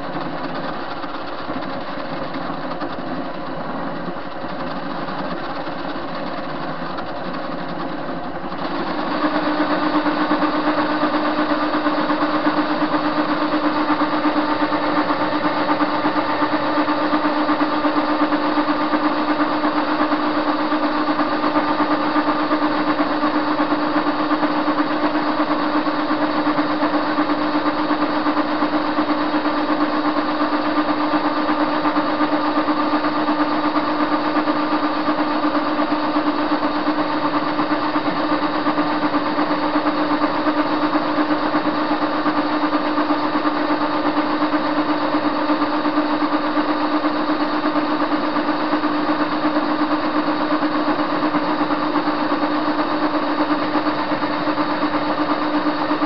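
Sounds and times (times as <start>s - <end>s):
lathe motor whining: 0.0s - 56.0s.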